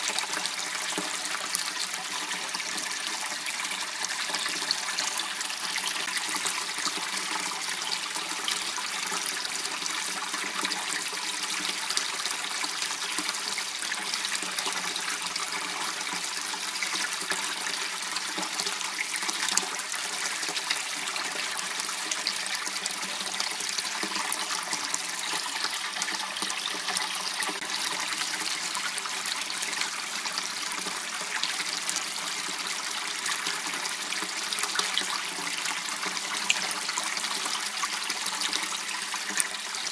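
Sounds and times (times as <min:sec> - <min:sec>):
water running in a channel: 0:00.0 - 0:39.9.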